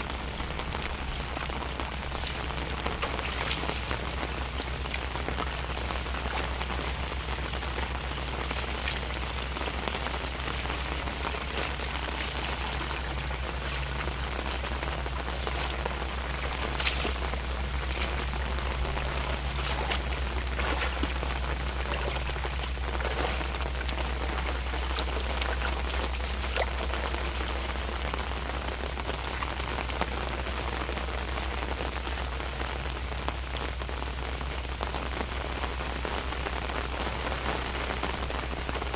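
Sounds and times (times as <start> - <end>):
low rumble: 0.0 - 38.9
raindrops ticking close by: 0.0 - 38.9
steady rain falling: 0.0 - 38.9.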